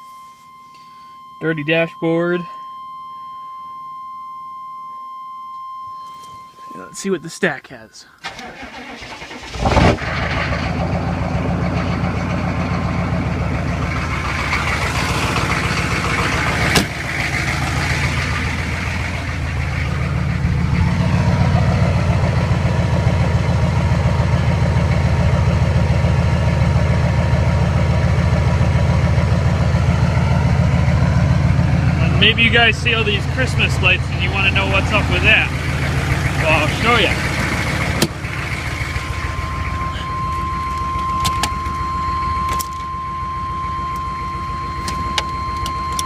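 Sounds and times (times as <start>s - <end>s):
diesel engine starting and idling: 8.2s - 46.0s.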